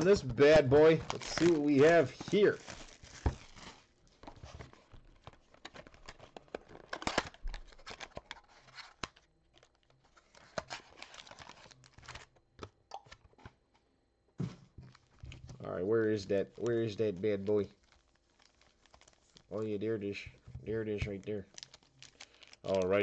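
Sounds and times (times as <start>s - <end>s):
wrappers crinkling: 0.0s - 12.4s, 14.9s - 23.0s.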